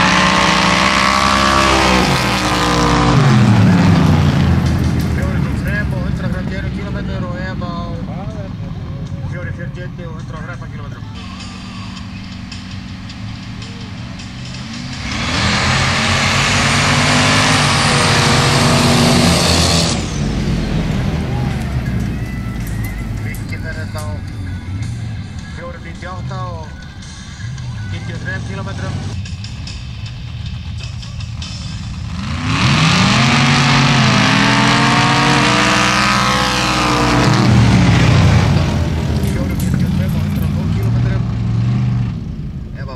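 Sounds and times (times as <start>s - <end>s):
race car engines: 0.0s - 42.9s.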